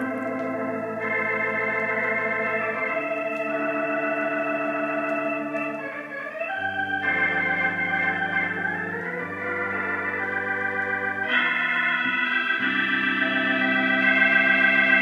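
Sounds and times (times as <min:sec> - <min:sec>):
organ chords from a record: 0:00.0 - 0:15.0.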